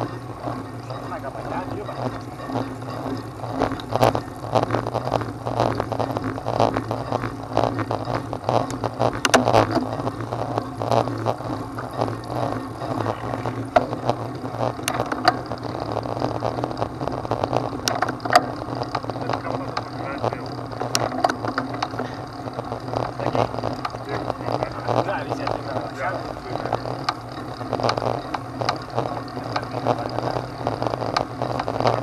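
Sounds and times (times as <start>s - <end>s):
low vehicle hum: 0.0s - 32.0s.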